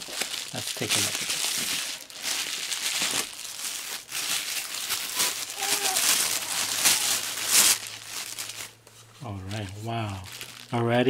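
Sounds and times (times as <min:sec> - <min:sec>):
bubble-wrap pouch crinkling: 0:00.0 - 0:11.0.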